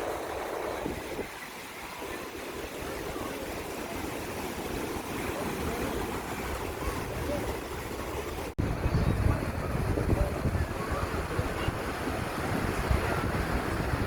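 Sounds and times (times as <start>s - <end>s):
faint distant voices: 0.0s - 14.0s
surf washing on beach: 0.0s - 14.0s
wind buffeting microphone: 0.0s - 14.0s.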